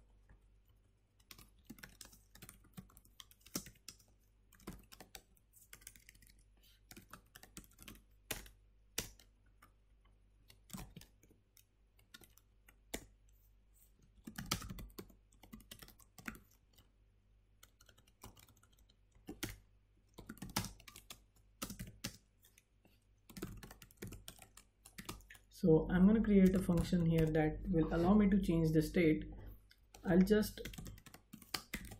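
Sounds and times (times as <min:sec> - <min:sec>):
faint keyboard typing: 0:00.0 - 0:27.6, 0:29.4 - 0:31.9.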